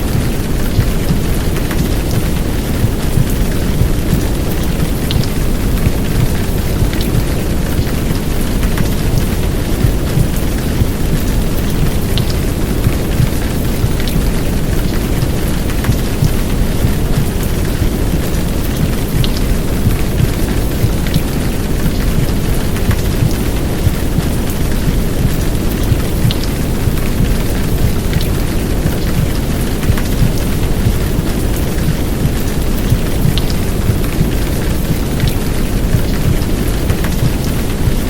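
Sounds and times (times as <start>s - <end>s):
heavy rain: 0.0s - 38.0s
raindrops ticking: 0.0s - 38.0s.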